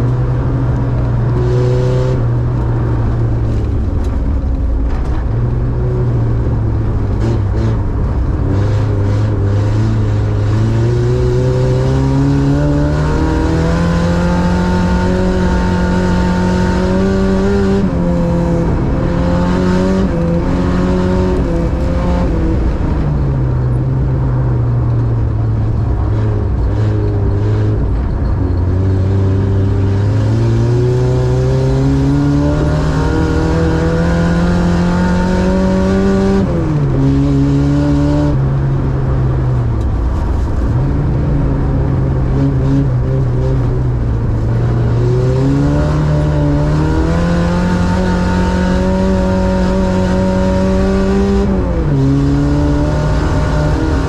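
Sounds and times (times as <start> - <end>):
car engine revving: 0.0 - 54.0
tyre and road noise: 0.0 - 54.0.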